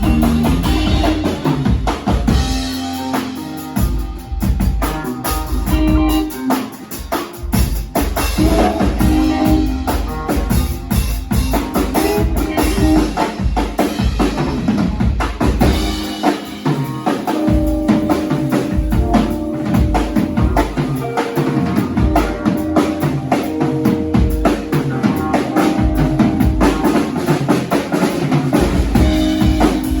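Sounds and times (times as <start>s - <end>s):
band playing: 0.0s - 30.0s
drum kit: 0.0s - 30.0s.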